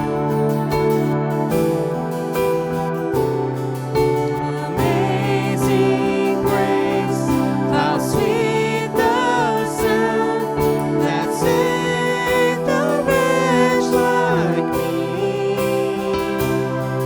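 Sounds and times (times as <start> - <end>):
worship music: 0.0 - 17.0.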